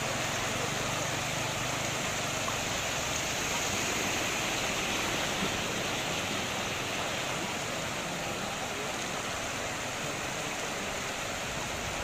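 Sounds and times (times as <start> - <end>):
floodwater rushing: 0.0 - 12.0
truck wheels pushing through water: 0.0 - 12.0.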